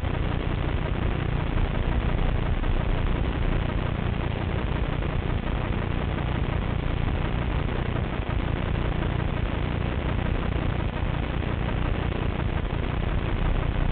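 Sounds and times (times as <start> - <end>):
underwater rumble and hiss: 0.0 - 13.9.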